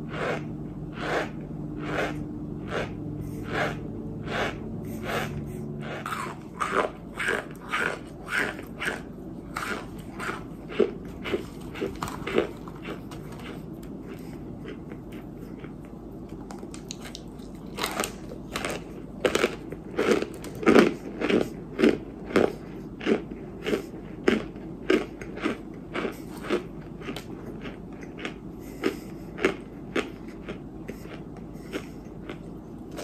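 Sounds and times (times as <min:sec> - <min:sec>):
clay being chewed: 0:00.0 - 0:33.0.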